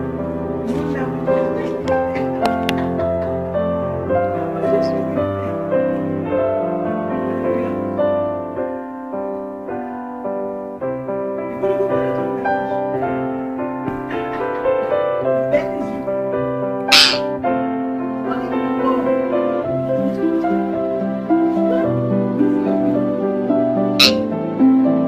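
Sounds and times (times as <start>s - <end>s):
piano melody of held notes: 0.0s - 25.0s.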